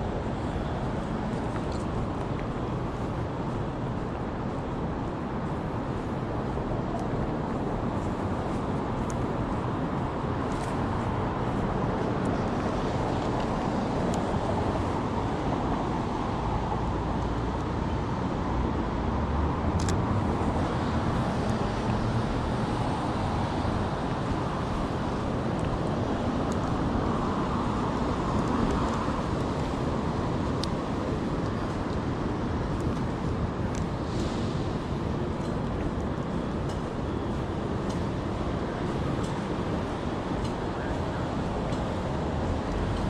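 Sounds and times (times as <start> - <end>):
street traffic: 0.0 - 43.0.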